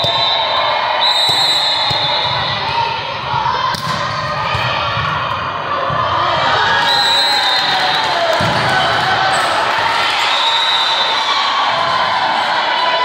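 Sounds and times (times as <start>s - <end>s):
echoing hubbub of people: 0.0s - 13.0s.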